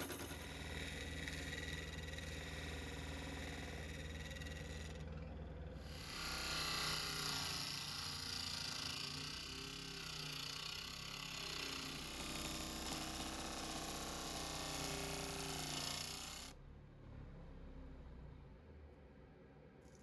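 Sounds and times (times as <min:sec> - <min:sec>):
wood lathe motor hum: 0:00.0 - 0:16.6.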